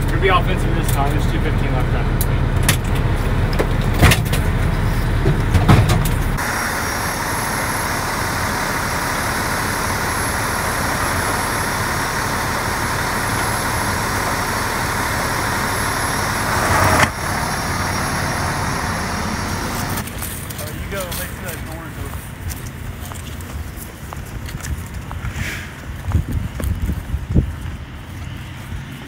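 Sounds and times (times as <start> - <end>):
fire engine idling: 0.0 - 29.0
low engine rumble inside cab: 0.0 - 29.0.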